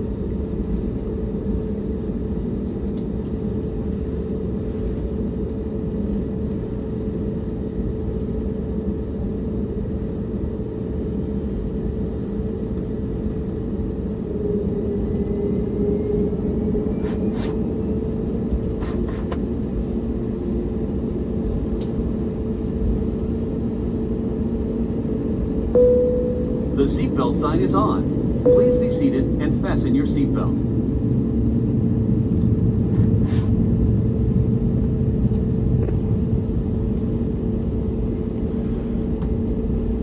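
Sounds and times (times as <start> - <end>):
jet engine rumble in cabin: 0.0 - 40.0.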